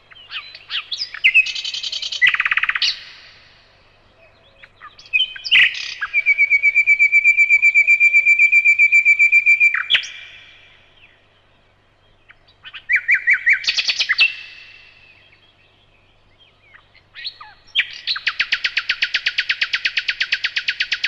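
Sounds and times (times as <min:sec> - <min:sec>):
nightingale singing: 0:00.0 - 0:21.0.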